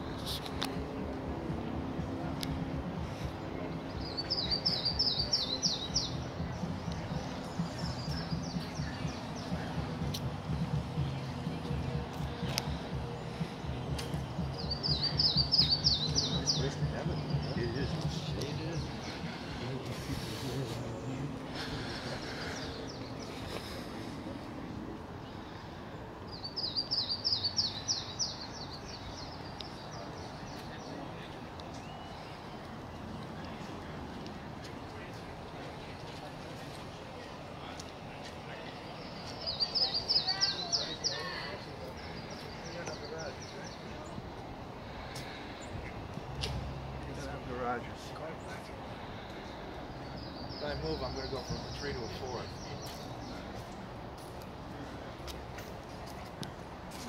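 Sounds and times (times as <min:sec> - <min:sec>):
low outdoor background noise: 0:00.0 - 0:57.0
songbird chirping: 0:00.0 - 0:57.0.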